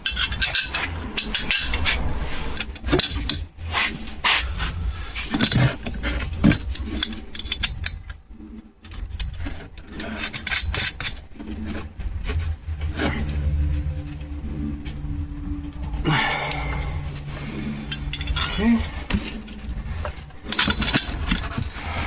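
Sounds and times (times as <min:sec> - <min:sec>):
metal parts clinking and scraping: 0:00.0 - 0:22.0.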